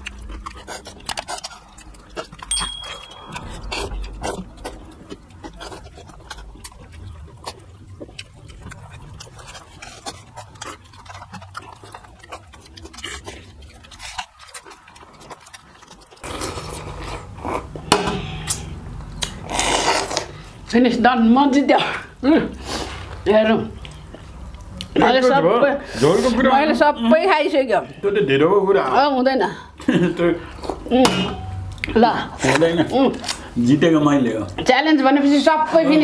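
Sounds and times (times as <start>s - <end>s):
chewing and eating sounds: 0.0s - 36.0s.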